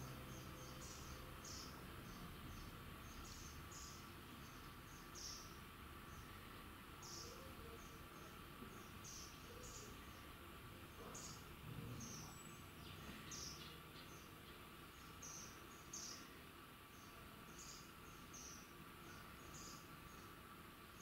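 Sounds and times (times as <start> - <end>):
small bird chirping: 0.0 - 6.4, 7.0 - 21.0.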